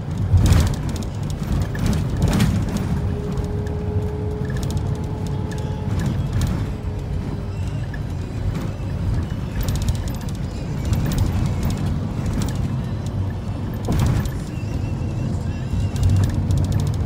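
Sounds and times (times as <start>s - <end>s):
diesel engine and road rumble: 0.0s - 17.0s.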